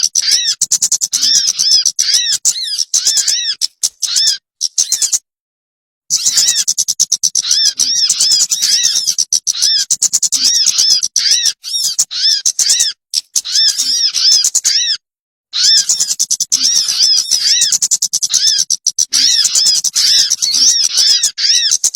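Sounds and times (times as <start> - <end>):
recorded bird call chirps: 0.0 - 5.3, 6.1 - 21.9.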